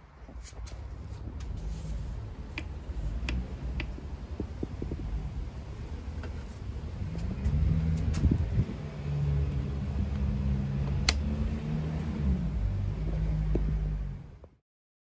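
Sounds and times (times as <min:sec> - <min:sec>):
low rumble: 0:01.0 - 0:14.5.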